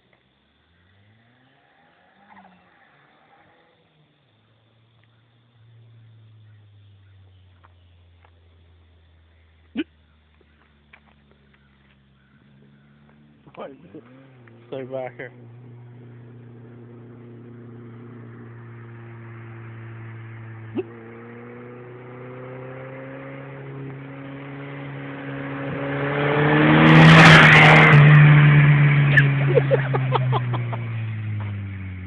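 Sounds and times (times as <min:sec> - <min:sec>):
car engine driving past: 0:00.5 - 0:09.6, 0:10.3 - 0:32.0.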